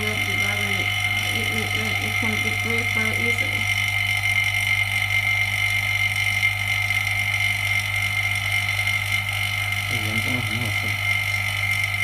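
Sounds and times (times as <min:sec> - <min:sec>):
machine hum with high whine: 0:00.0 - 0:12.0.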